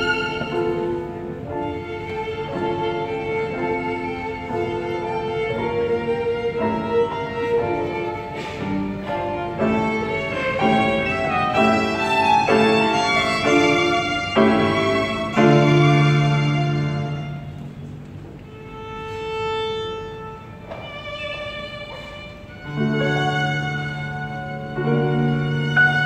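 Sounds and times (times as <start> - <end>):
grand piano: 0.0 - 26.0
violin duet: 0.0 - 26.0.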